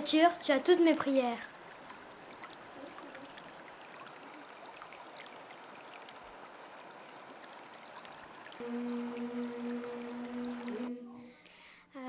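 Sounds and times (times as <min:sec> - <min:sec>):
tap water running into sink: 0:01.6 - 0:11.4.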